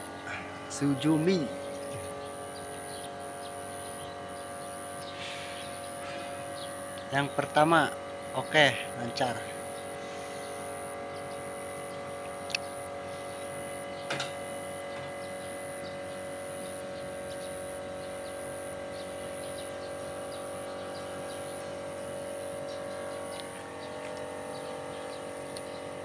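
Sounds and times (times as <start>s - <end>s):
birds chirping: 0.0s - 26.0s
generator humming: 0.0s - 26.0s.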